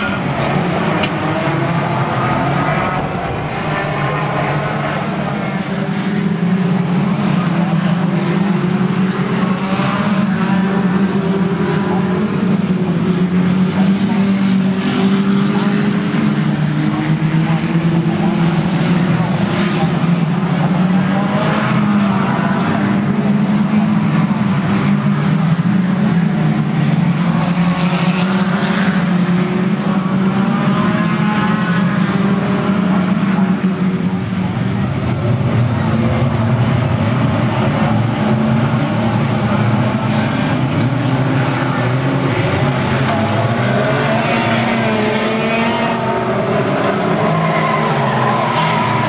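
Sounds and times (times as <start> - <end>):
racing car engines: 0.0 - 49.0.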